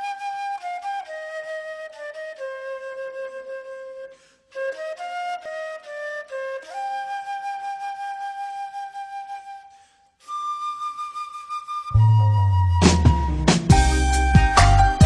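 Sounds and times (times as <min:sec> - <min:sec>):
flute melody: 0:00.0 - 0:15.0.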